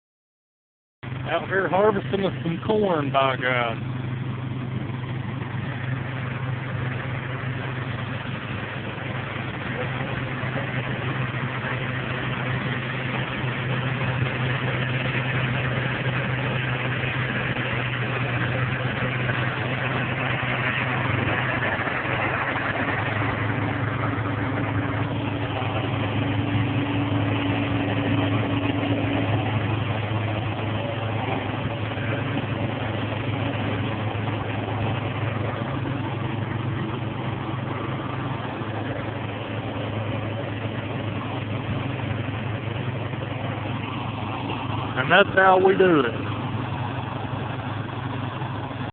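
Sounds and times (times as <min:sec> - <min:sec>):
combine harvester running: 0:01.0 - 0:48.9.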